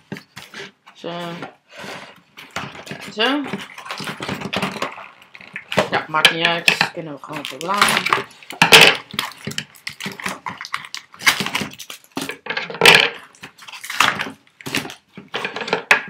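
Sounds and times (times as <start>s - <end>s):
cardboard and plastic packaging rustling: 0.0s - 16.0s.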